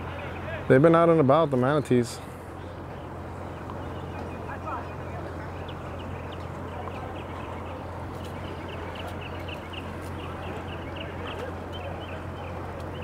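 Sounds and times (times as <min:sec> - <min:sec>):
outboard motors idling: 0:00.0 - 0:13.0.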